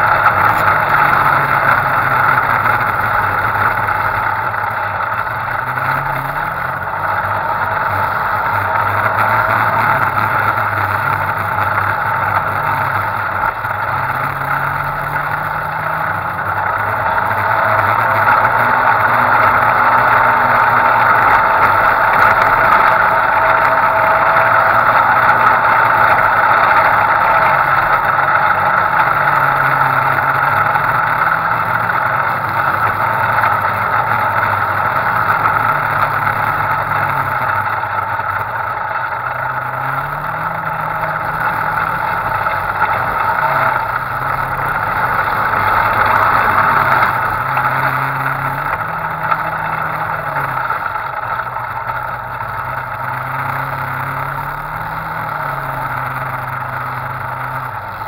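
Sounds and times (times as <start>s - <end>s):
off-road vehicle engine revving: 0.0s - 58.0s
wind and driving noise: 0.0s - 58.0s.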